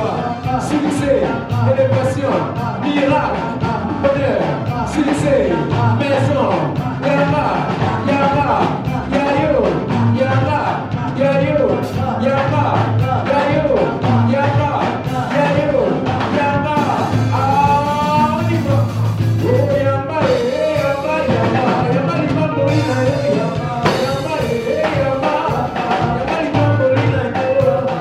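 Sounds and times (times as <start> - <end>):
upbeat worship band with singing: 0.0 - 28.0.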